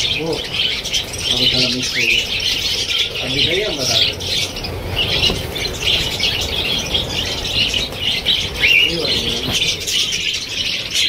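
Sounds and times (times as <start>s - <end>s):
budgerigars chattering and chirping: 0.0s - 11.0s
wings flapping: 0.0s - 11.0s.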